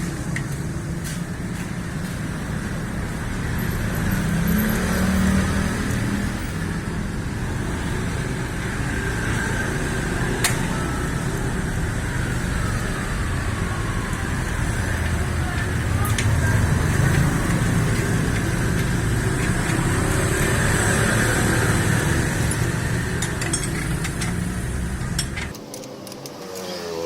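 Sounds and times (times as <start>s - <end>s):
vehicle engines running: 0.0s - 26.6s
road traffic noise: 0.0s - 27.0s.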